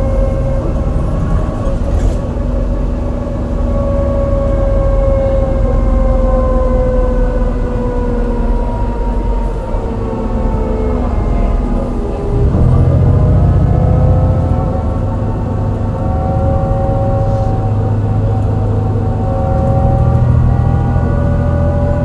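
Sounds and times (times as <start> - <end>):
gearbox whine: 0.0 - 22.0
misfiring bus engine rumble: 0.0 - 22.0.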